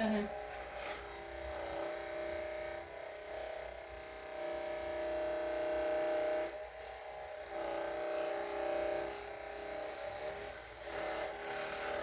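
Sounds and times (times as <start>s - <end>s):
electric massage device buzzing: 0.0s - 12.0s.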